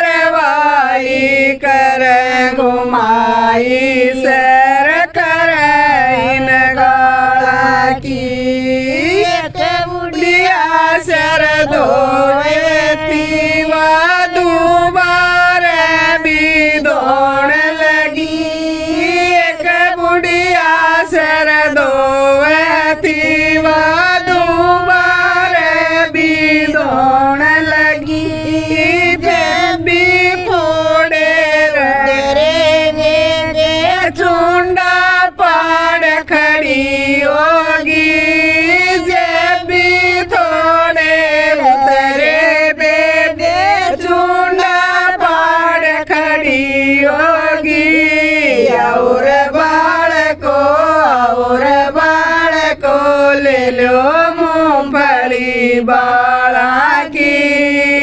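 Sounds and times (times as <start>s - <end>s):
women singing together: 0.0s - 58.0s.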